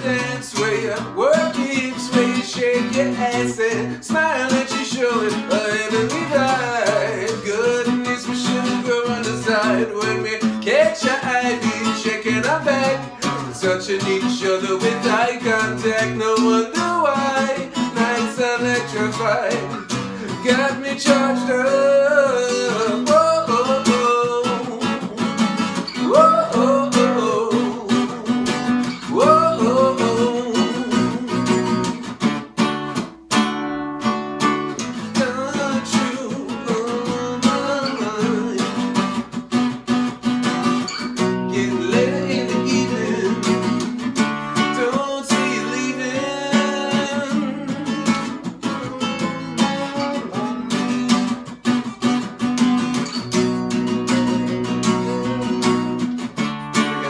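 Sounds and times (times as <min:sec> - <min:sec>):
man singing wordless vocal runs: 0:00.0 - 0:31.9, 0:34.9 - 0:39.2, 0:41.2 - 0:51.1
acoustic guitar strumming: 0:00.0 - 0:57.0.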